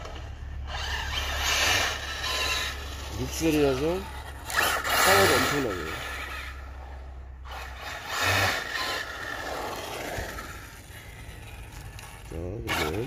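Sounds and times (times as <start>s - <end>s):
rc truck electric motor whine: 0.0s - 13.0s
tyre noise on asphalt: 0.0s - 13.0s.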